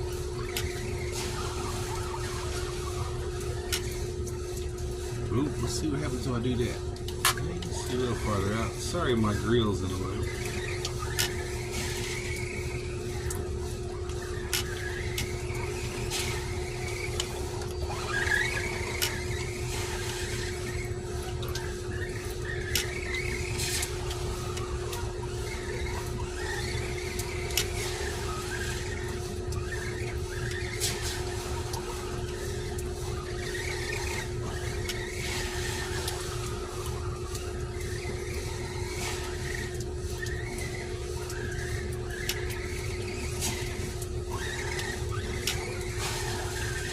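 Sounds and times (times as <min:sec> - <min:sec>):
electric toy truck motor whining: 0:00.0 - 0:46.9
steady low hum: 0:00.0 - 0:46.9.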